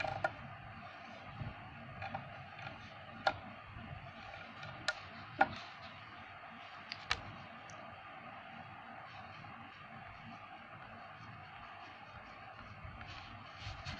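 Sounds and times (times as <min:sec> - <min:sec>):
faint steady hiss: 0:00.0 - 0:13.9.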